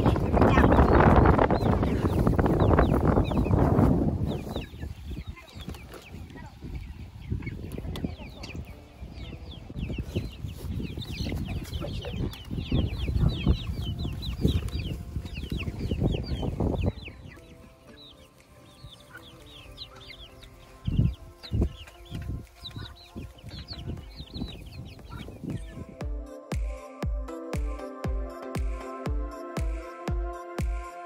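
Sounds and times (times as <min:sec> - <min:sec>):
wind rumble on microphone: 0:00.0 - 0:17.8, 0:18.7 - 0:26.0
chicks peeping: 0:00.0 - 0:26.2.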